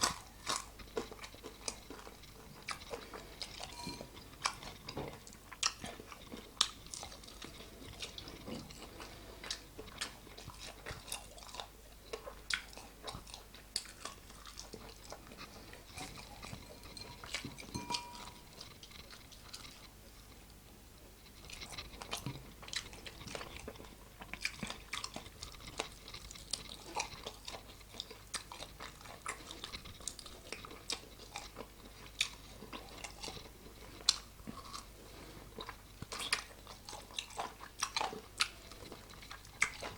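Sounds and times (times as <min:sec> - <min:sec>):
chewing and biting crunches: 0:00.0 - 0:20.4, 0:21.3 - 0:39.9.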